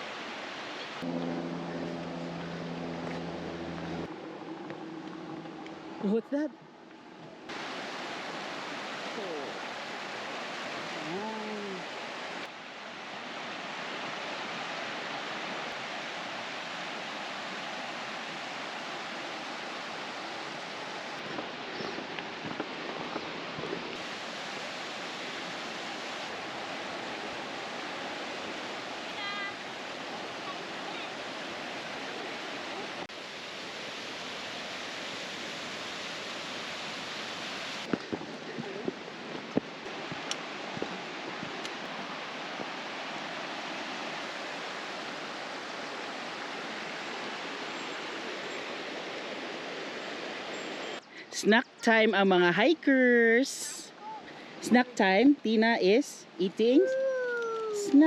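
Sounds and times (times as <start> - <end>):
fast-flowing water rushing: 0.0 - 51.6.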